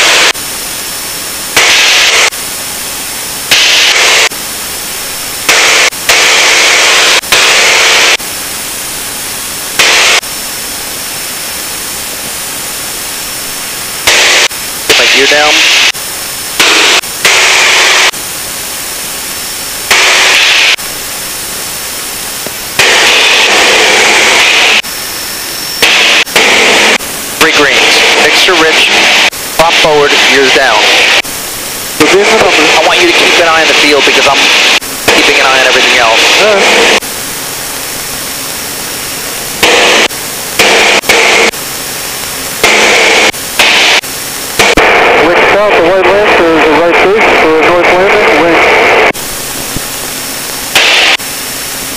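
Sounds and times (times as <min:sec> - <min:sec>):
aircraft cockpit hiss: 0:00.0 - 0:51.9.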